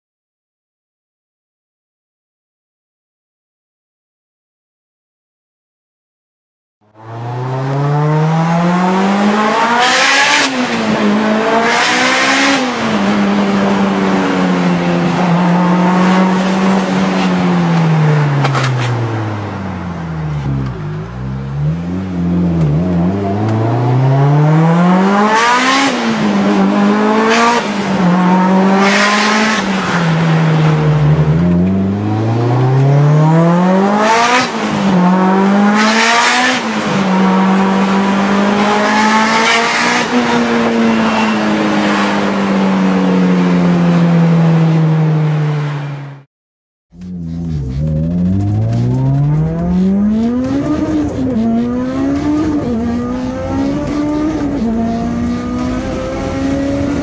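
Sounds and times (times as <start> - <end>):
car engine accelerating hard: 6.9 - 46.2, 47.0 - 57.0.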